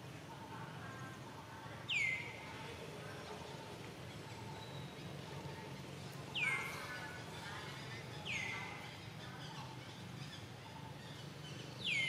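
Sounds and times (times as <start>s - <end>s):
faint chirping calls: 1.8s - 12.0s.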